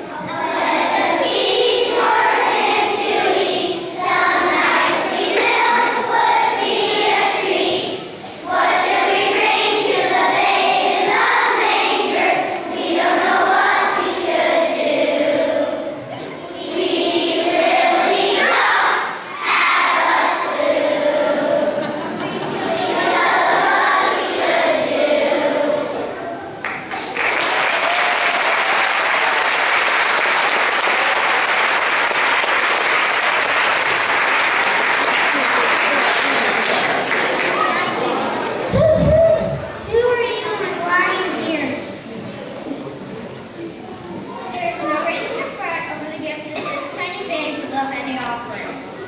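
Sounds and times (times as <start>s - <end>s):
children's choir singing: 0.0s - 49.0s.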